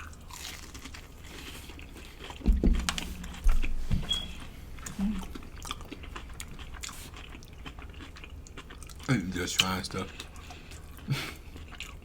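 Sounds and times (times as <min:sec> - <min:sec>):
chewing crunchy fried food: 0:00.0 - 0:03.8, 0:04.4 - 0:12.0.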